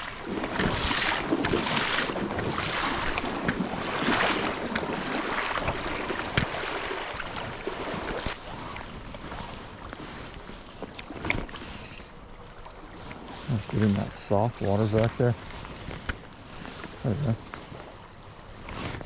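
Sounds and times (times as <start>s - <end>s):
creek water running and splashing: 0.0s - 15.7s.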